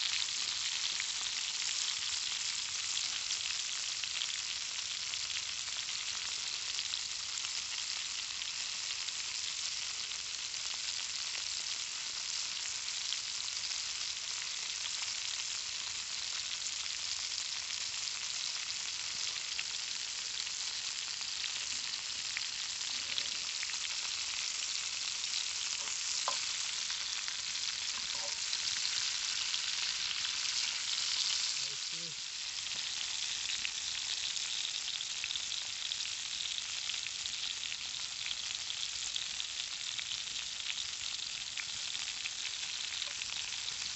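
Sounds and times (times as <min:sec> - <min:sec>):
sausages sizzling in a pan: 0:00.0 - 0:43.9.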